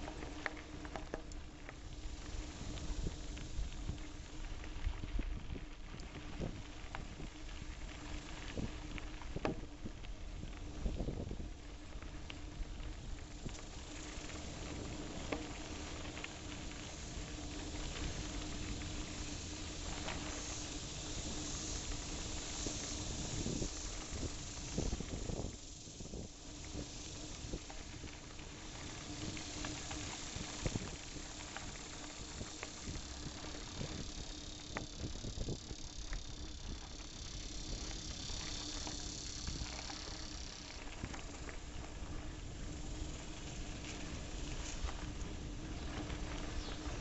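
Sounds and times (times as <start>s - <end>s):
rushing hiss of movement: 0.0s - 47.0s.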